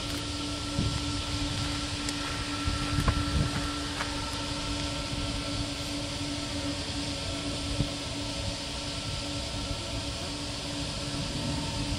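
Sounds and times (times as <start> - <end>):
jet engines idling: 0.0 - 11.9
low rumbles: 0.0 - 11.9.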